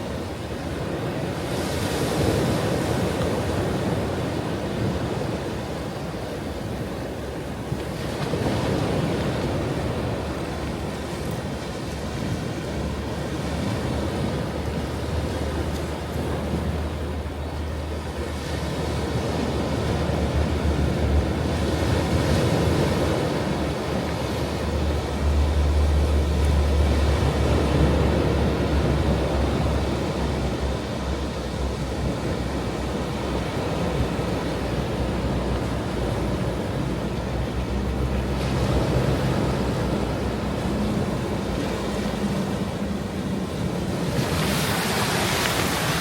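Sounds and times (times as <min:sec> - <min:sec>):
ocean waves breaking on shore: 0:00.0 - 0:46.0.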